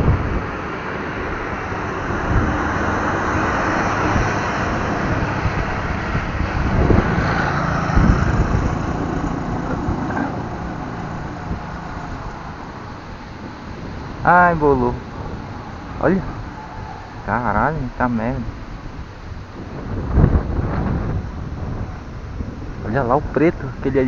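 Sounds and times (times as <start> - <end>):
passing vehicle engine hum: 0.0 - 24.0
street traffic noise: 0.0 - 24.0
wind buffeting microphone: 0.0 - 24.0.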